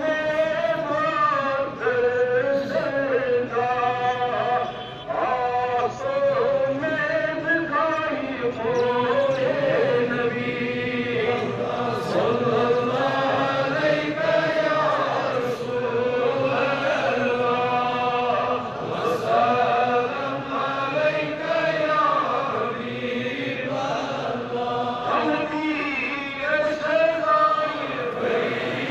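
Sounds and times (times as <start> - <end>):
devotional chanting: 0.0 - 28.9.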